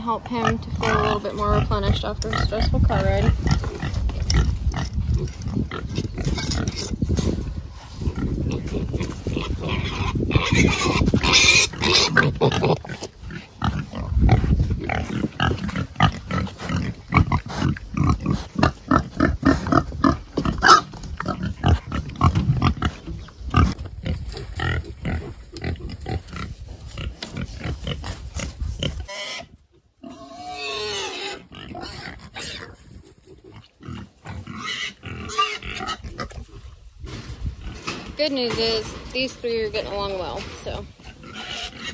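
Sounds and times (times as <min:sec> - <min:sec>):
pigs grunting: 0:00.3 - 0:07.1, 0:07.7 - 0:36.8, 0:37.5 - 0:41.9.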